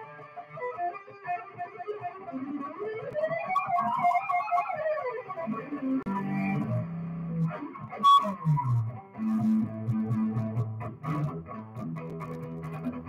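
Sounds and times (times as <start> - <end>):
electric guitar single notes: 0.0 - 13.0.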